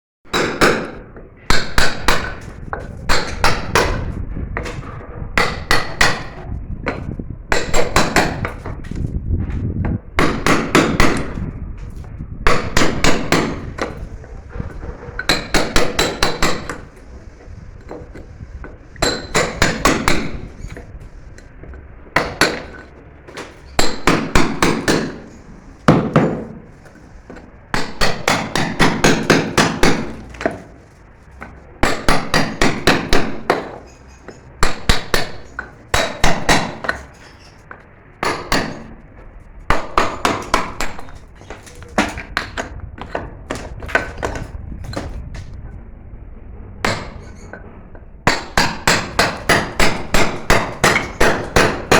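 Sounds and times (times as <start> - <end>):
hammer striking sharp blows: 0.3 - 9.1, 9.9 - 45.2, 46.8 - 47.6, 48.2 - 51.9.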